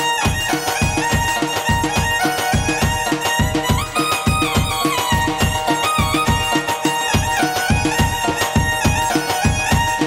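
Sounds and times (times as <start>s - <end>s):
dhol drum beating: 0.0s - 10.0s
folk band playing: 0.0s - 10.0s
reedy lead melody: 0.0s - 10.0s.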